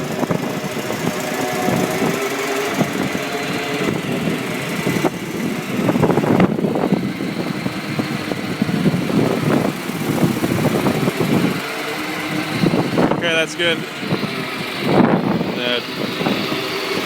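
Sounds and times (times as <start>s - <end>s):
fuel truck pump running: 0.0s - 17.0s.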